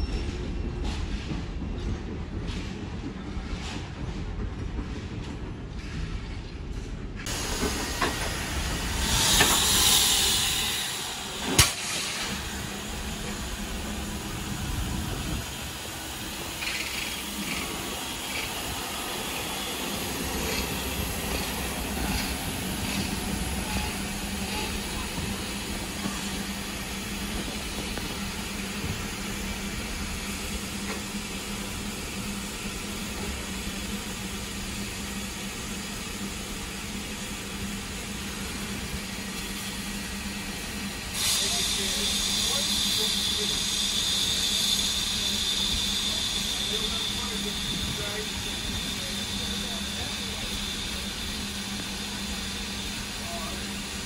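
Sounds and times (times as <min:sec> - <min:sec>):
train running noise: 0:00.0 - 0:54.0
steam locomotive hissing: 0:07.2 - 0:54.0.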